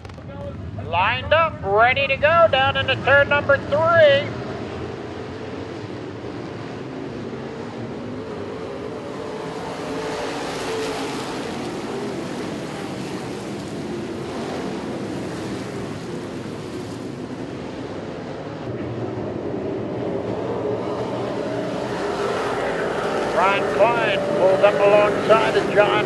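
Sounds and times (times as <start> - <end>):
race car engines droning: 0.0 - 26.0.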